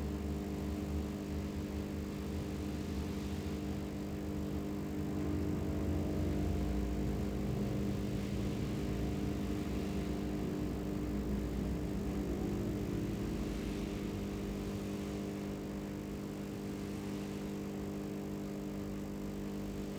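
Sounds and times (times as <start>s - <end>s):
low machine hum: 0.0s - 19.9s.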